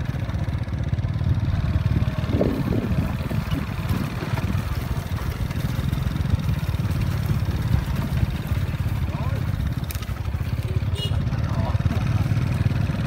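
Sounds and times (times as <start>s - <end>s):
small motorcycle engines running: 0.0s - 13.0s.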